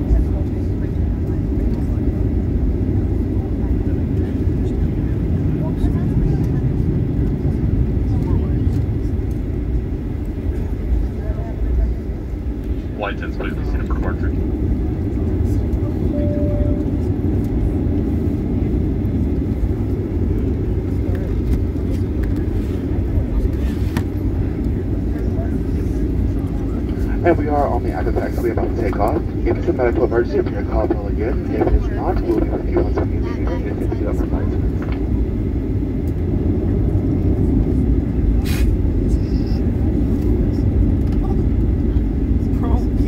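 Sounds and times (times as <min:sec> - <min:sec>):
airframe rolling on taxiway: 0:00.0 - 0:43.0
jet engines low rumble: 0:00.0 - 0:43.0.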